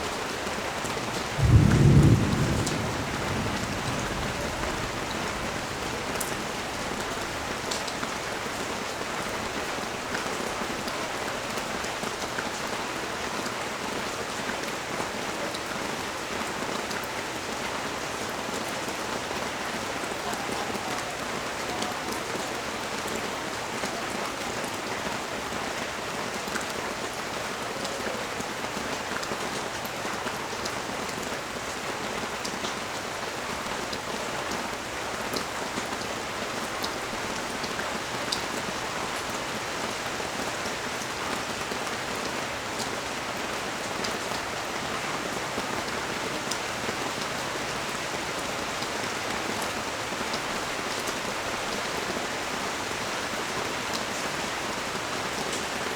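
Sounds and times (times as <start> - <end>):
rain hissing on street: 0.0 - 55.9
raindrops ticking on surfaces: 0.0 - 55.9.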